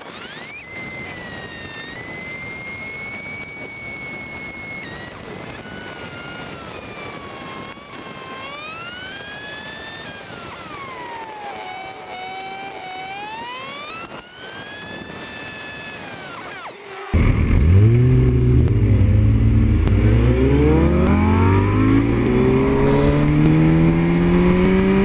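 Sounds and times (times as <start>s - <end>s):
motorcycle engine whine: 0.0s - 25.0s.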